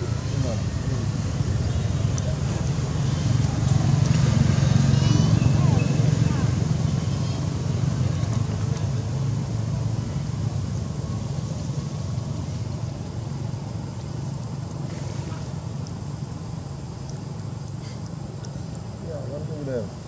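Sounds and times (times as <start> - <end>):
vehicle engine running low: 0.0 - 20.0.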